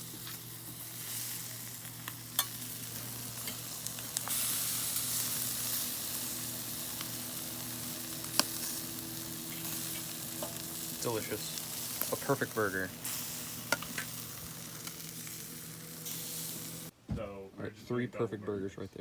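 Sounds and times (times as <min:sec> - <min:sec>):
burgers sizzling on a grill: 0:00.0 - 0:16.9.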